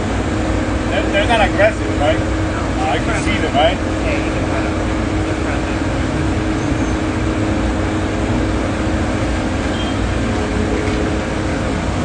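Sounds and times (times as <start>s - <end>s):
heavy vehicle engine idling: 0.0s - 12.0s
street noise: 0.0s - 12.0s.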